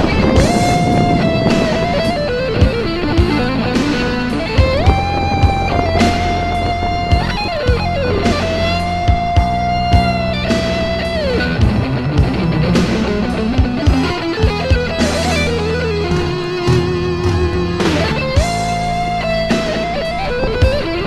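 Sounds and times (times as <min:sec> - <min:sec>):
electric guitar bending notes: 0:00.0 - 0:21.0
rock instrumental music: 0:00.0 - 0:21.0.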